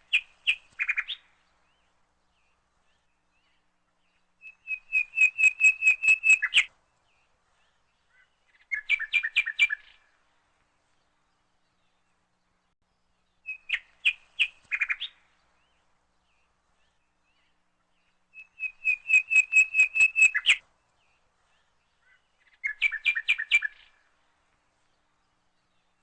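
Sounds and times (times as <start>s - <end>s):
bird chirping: 0.0s - 10.2s, 11.0s - 24.2s.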